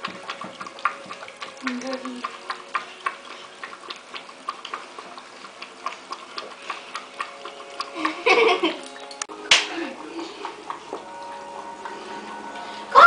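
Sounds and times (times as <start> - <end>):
puppy mouth clicking on tub: 0.0 - 8.2, 8.8 - 12.0.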